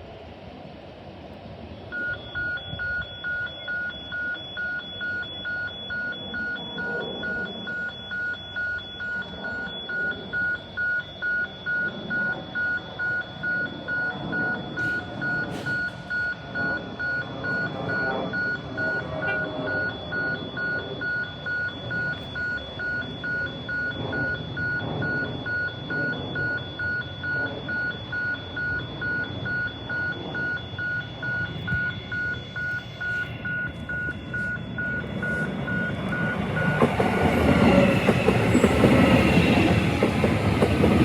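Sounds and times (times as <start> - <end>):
low rumble of rail and traffic: 0.0 - 41.0
electronic warning beeper: 2.0 - 41.0.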